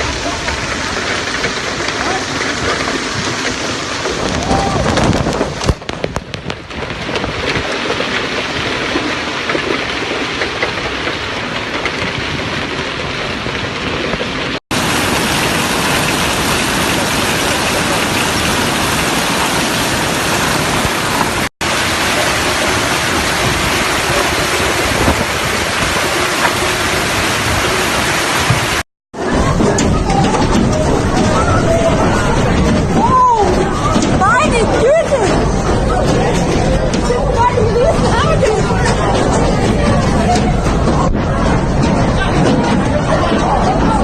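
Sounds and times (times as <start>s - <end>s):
heavy hail and rain pounding: 0.0s - 44.0s.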